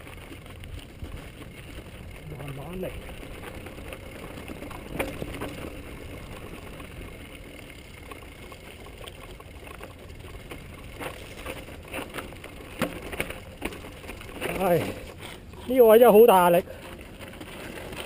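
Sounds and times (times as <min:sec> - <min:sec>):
bike knocking and rattling on rocks: 0:00.0 - 0:18.0
tyres rolling over gravel: 0:00.0 - 0:18.0.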